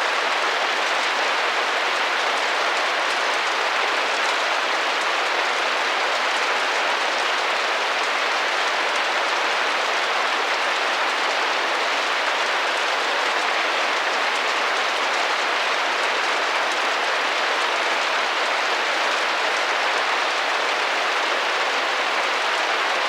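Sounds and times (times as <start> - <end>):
rain on a window: 0.0 - 23.0.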